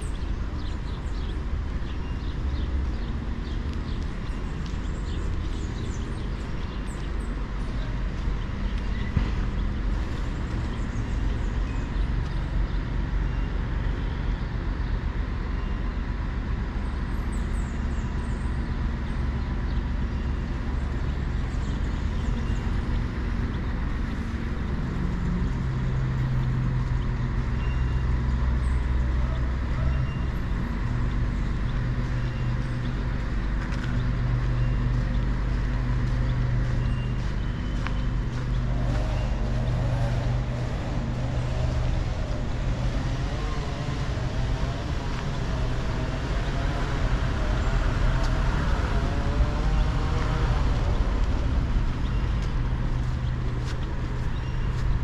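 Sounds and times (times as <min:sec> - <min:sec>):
street traffic rumble: 0:00.0 - 0:55.0
vehicle engine hum: 0:00.0 - 0:55.0.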